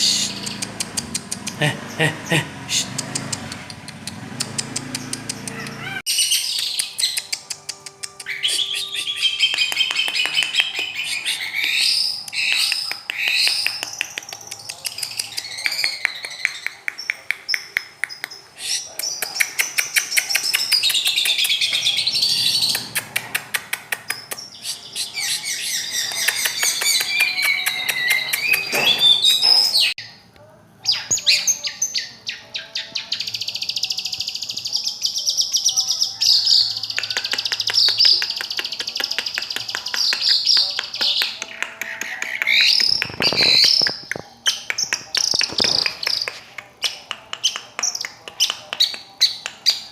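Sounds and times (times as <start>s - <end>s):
bird chattering song: 0.0s - 30.2s, 30.8s - 49.9s.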